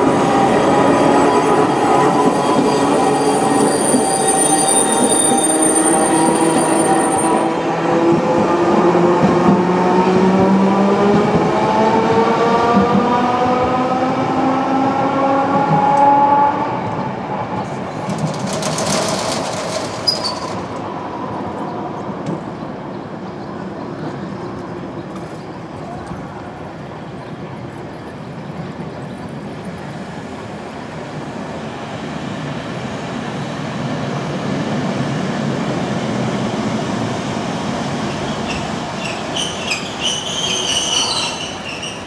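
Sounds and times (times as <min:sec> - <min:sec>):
tram rumbling on rails: 0:00.0 - 0:42.0.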